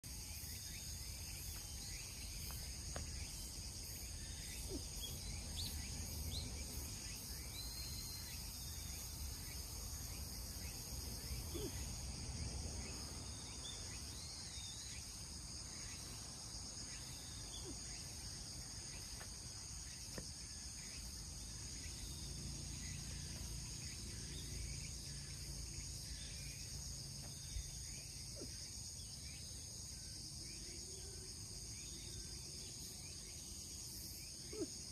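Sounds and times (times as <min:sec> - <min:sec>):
insects chorus: 0:00.0 - 0:34.9.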